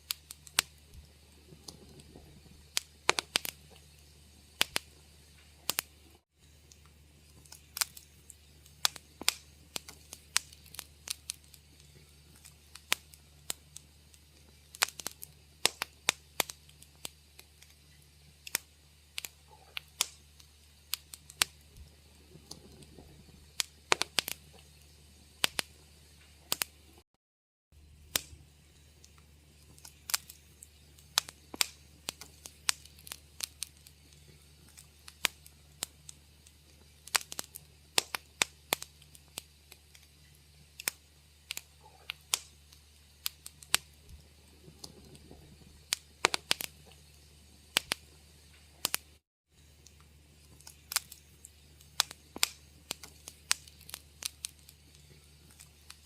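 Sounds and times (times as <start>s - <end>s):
wood fire crackling: 0.0s - 27.0s, 27.8s - 56.0s.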